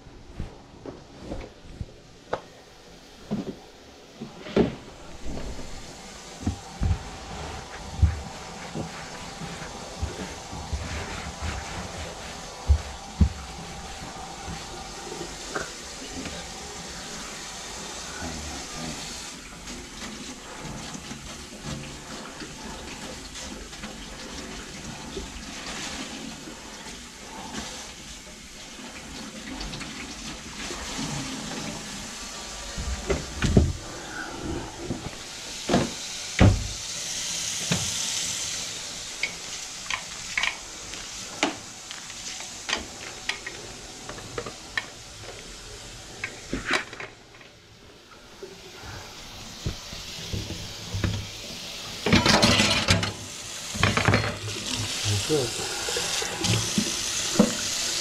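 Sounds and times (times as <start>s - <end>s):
water pouring down drain: 4.9s - 46.5s, 48.1s - 58.0s.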